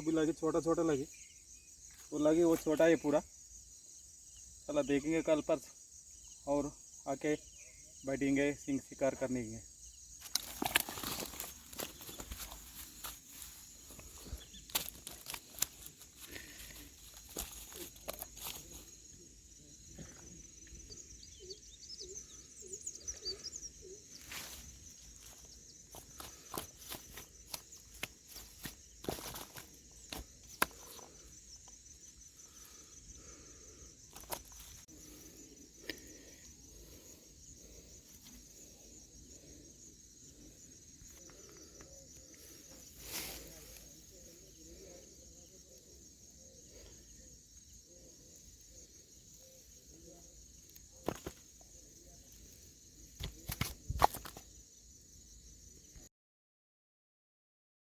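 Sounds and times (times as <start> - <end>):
insects trilling: 0.0 - 56.1.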